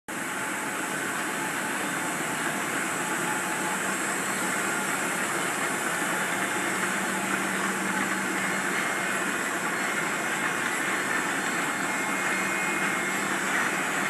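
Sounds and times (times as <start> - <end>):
lathe running: 0.1 - 14.0.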